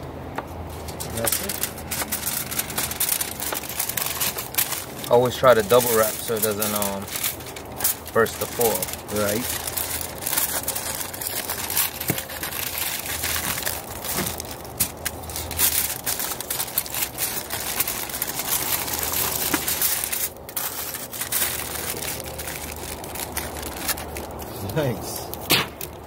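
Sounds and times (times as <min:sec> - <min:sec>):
aluminium foil crinkling: 0:00.5 - 0:26.0.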